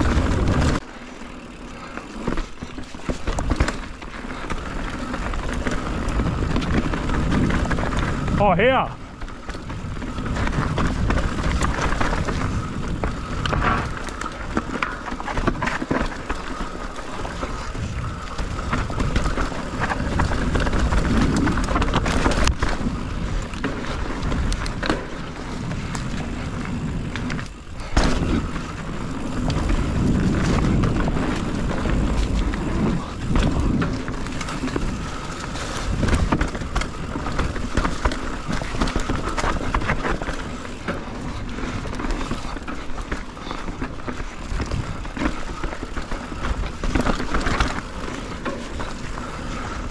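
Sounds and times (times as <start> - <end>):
bike tyres rumbling on dirt: 0.0 - 49.9.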